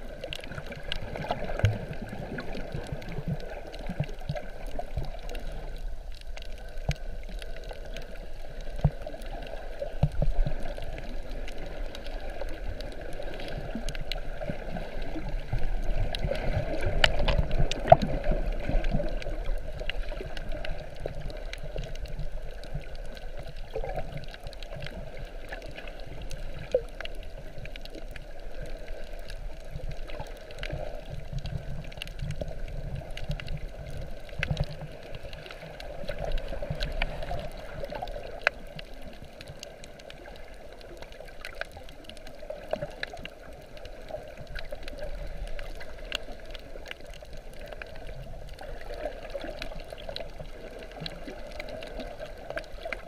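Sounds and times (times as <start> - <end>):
underwater water wash: 0.0 - 53.0
sharp underwater clicks: 0.1 - 53.0.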